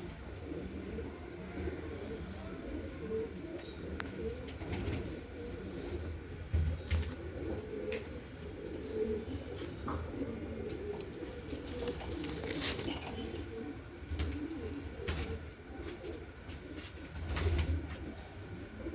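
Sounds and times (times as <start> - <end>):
pigeons cooing: 0.0 - 18.9.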